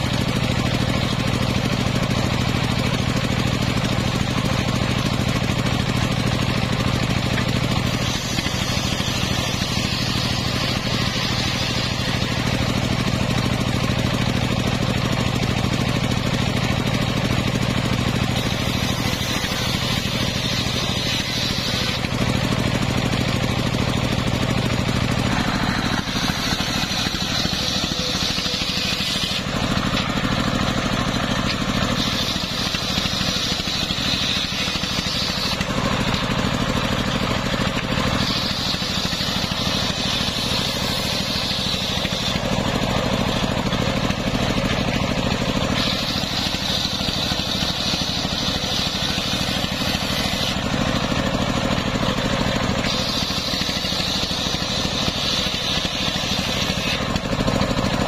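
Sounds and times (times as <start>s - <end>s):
circular saw cutting whine: 0.0s - 58.0s
stationary engine running: 0.0s - 58.0s.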